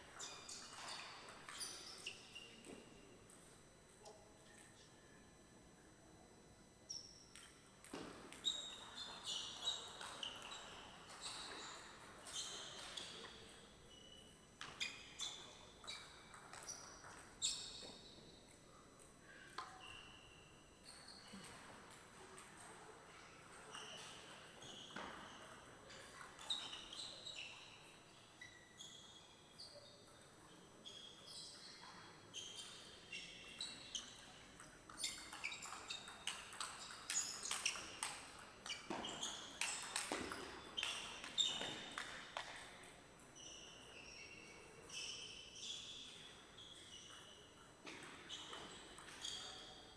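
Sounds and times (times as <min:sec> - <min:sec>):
shoes squeaking on floor: 0:00.1 - 0:03.0, 0:07.8 - 0:18.7, 0:22.6 - 0:49.9.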